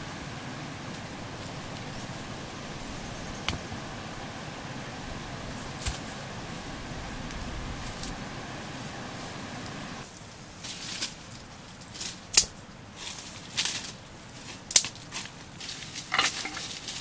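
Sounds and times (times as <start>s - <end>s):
dry leaves crackling and rustling: 0.0s - 17.0s.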